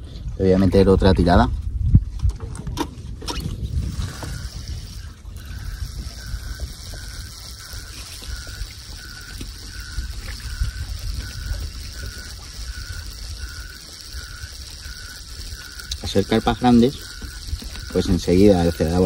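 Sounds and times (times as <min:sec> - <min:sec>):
wind rumble on microphone: 0:00.0 - 0:19.0
fishing reel ratcheting: 0:03.3 - 0:19.0.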